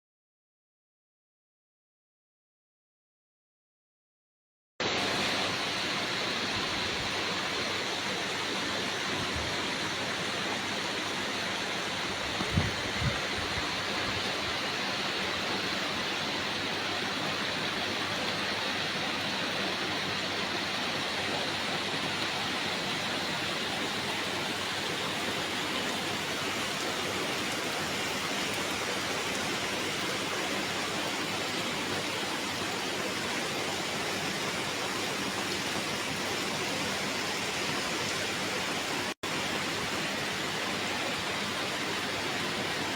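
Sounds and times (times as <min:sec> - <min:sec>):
steady rain falling: 0:04.8 - 0:42.9.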